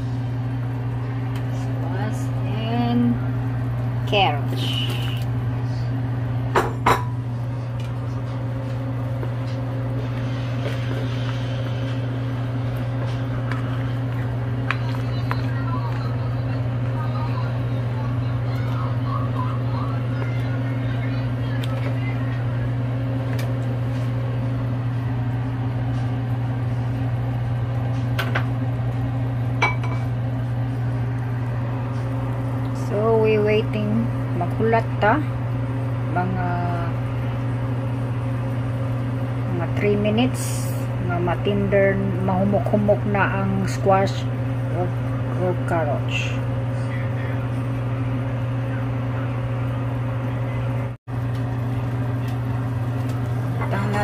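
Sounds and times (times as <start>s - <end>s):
kitchen appliance humming: 0.0s - 54.0s.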